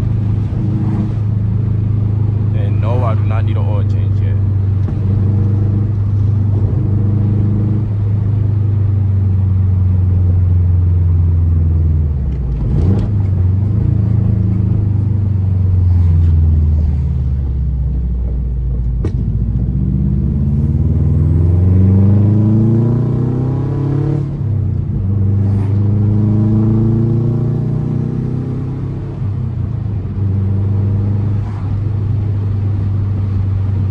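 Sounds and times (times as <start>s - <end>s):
car engine rumble while driving: 0.0s - 33.9s.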